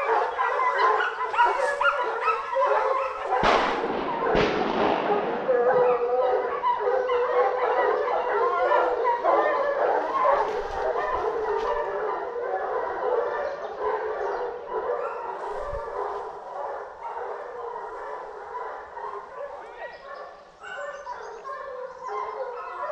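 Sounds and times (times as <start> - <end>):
dogs baying: 0.0 - 22.9.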